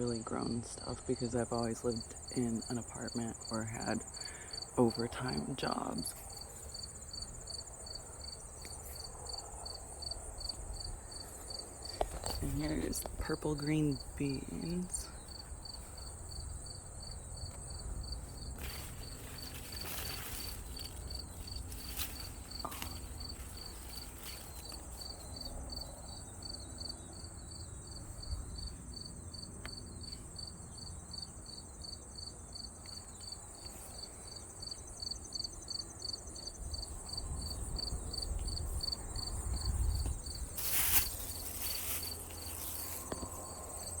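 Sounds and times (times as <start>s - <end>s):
insect chirping pulse: 0.1s - 44.0s.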